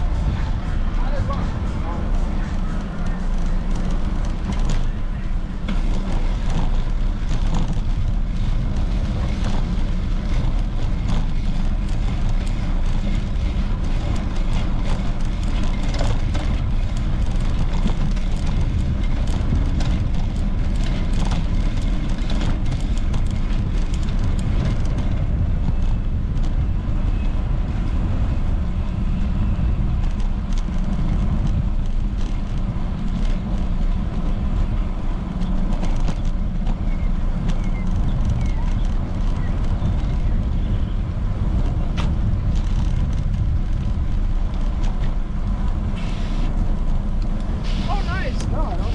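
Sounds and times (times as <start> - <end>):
bicycle clicks and rattles: 0.0 - 48.9
wind rumbling on microphone: 0.0 - 48.9.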